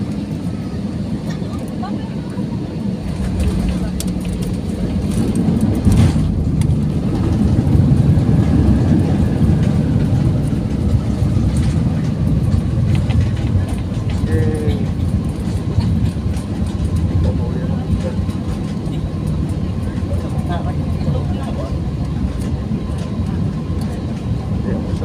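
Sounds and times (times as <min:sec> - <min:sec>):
loud low rumble in aircraft cabin: 0:00.0 - 0:25.0.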